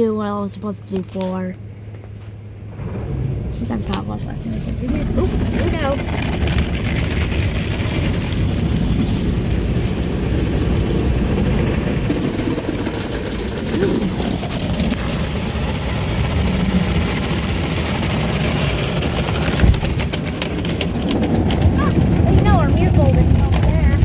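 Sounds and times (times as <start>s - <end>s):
car wash brushes scrubbing car: 3.6s - 24.0s.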